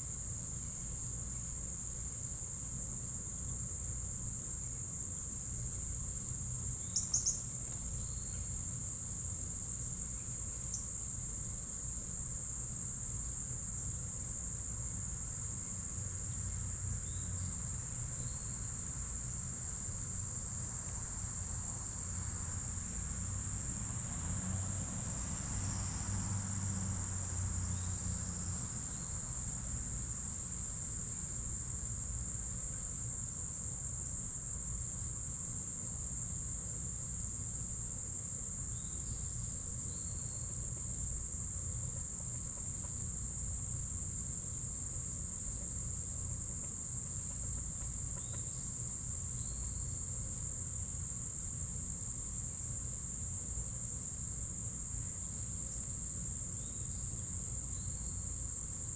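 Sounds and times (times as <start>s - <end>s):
insects trilling drone: 0.0s - 58.9s.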